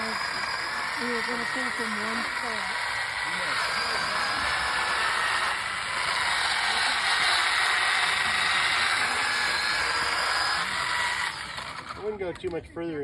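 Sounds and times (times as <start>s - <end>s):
chainsaw cutting wood: 0.0s - 12.6s.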